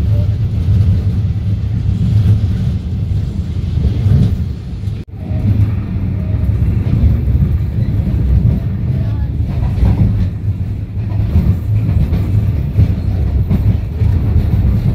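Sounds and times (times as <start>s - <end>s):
train rumble inside carriage: 0.0s - 14.9s.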